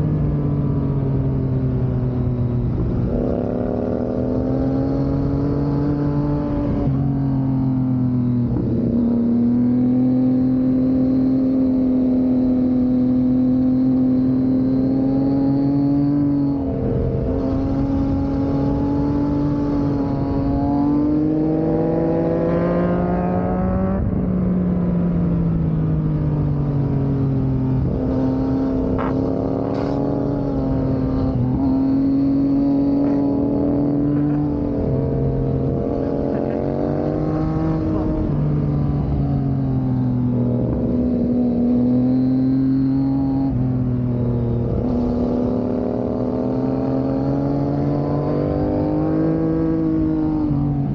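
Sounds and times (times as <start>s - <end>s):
motorcycle engine pulling uphill: 0.0s - 50.9s.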